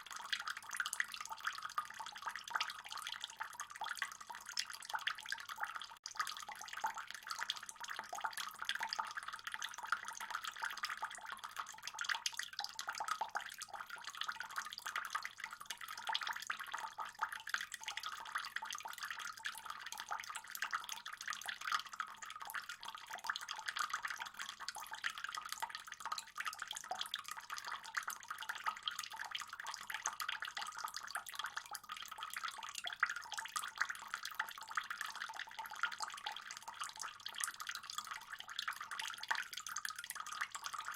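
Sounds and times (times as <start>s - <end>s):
small water drips: 0.0s - 40.9s
water trickling and splashing: 0.0s - 40.9s.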